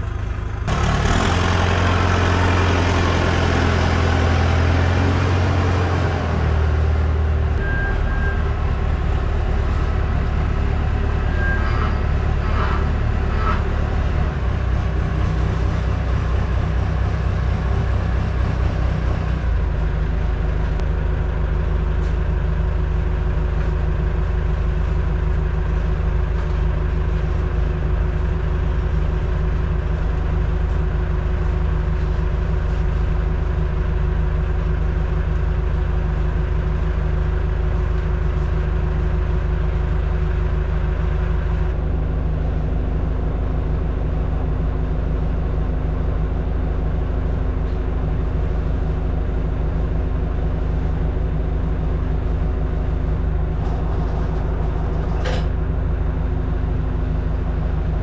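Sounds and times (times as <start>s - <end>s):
loader engine humming: 0.0s - 58.0s.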